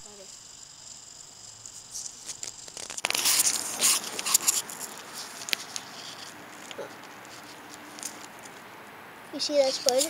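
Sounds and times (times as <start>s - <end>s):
dry leaves and twigs crackling: 1.7s - 10.0s.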